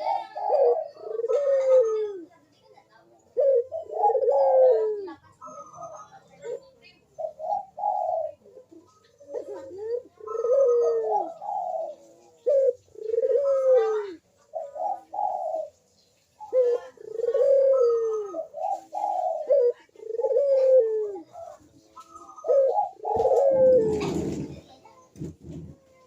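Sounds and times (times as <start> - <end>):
dove cooing: 0.0 - 2.5, 3.1 - 26.0.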